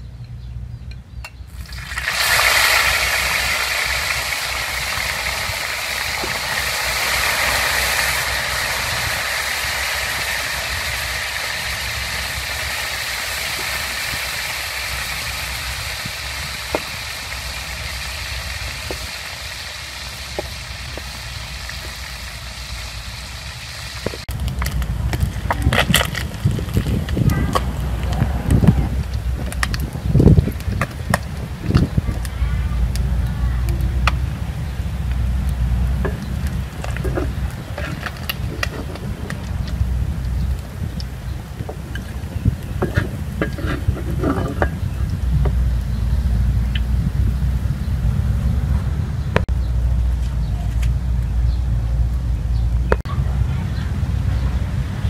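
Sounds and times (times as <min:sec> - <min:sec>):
fish sizzling in hot oil: 0:01.5 - 0:33.2, 0:33.8 - 0:47.6.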